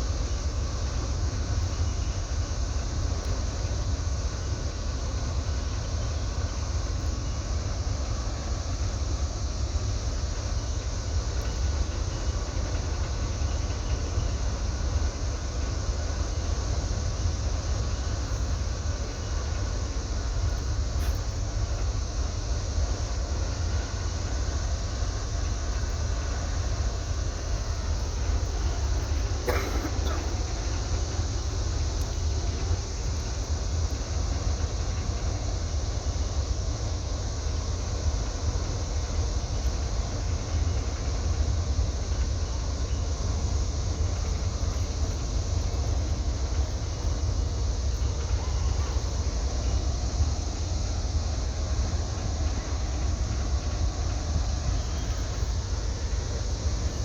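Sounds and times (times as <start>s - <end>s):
boat engines rumbling: 0.0s - 57.0s.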